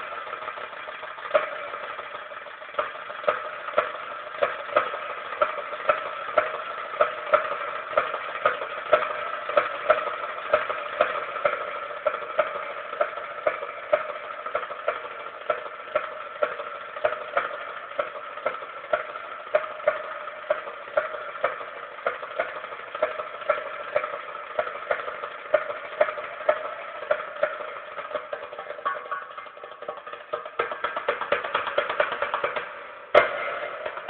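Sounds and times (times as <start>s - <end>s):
dance music with percussion beat: 3.6s - 34.0s.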